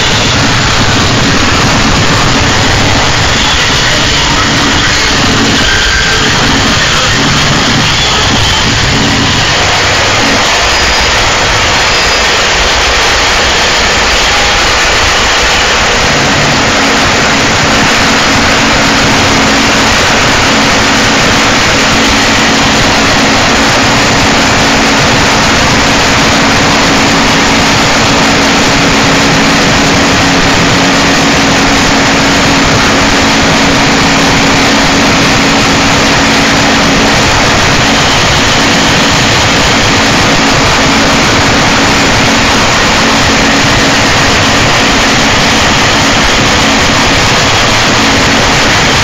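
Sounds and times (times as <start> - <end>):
distorted static noise: 0.0 - 49.0
low drone: 0.0 - 49.0.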